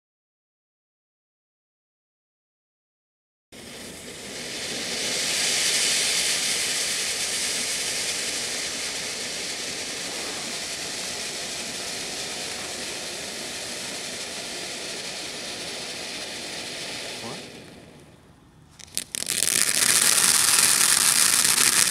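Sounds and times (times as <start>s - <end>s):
firework fountain hissing: 3.6s - 21.9s.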